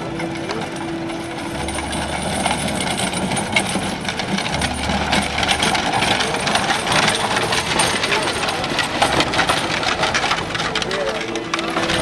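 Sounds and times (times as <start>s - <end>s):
harness chains jingling: 0.0s - 12.0s
hooves on dirt road: 0.0s - 12.0s
wooden wagon wheels rattling: 0.0s - 12.0s.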